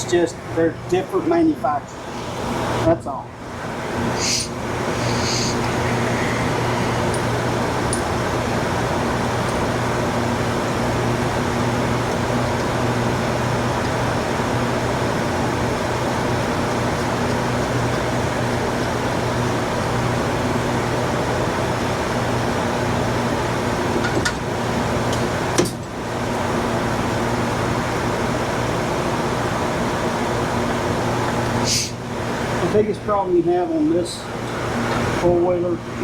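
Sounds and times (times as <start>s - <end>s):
fan-like machine humming: 0.0s - 36.0s.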